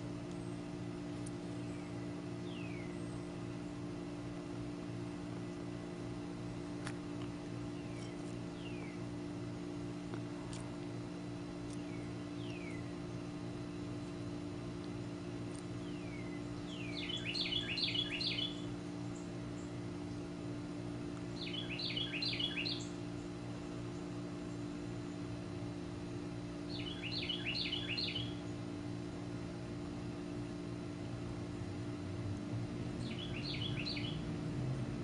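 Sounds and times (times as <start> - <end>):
songbird singing: 0.0 - 10.7, 11.5 - 35.0
low hum: 0.0 - 35.0.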